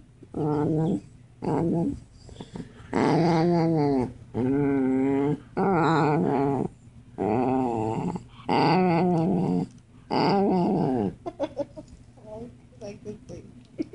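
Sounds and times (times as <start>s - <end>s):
dog growling: 0.3s - 11.5s.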